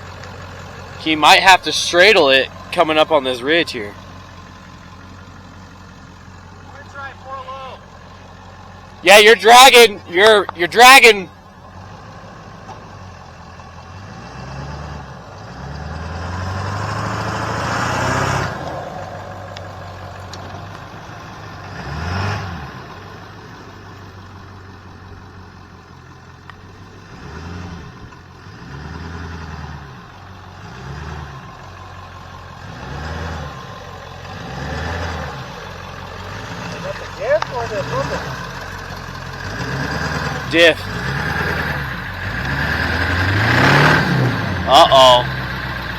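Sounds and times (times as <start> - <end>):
pickup truck engine revving: 0.0 - 25.7, 26.6 - 45.9.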